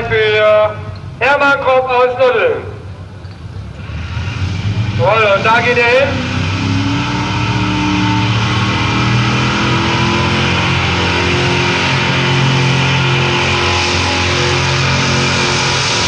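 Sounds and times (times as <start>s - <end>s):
tractor engine droning at full load: 0.0s - 16.0s.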